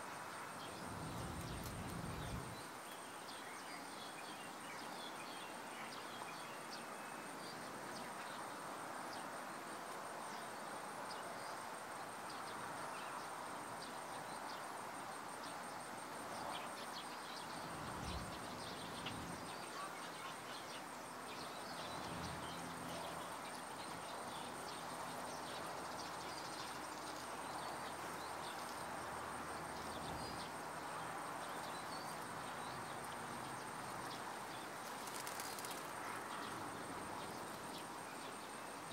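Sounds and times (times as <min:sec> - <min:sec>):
steady hiss: 0:00.0 - 0:03.9, 0:05.5 - 0:38.9
small ticks and chirps: 0:00.1 - 0:38.9.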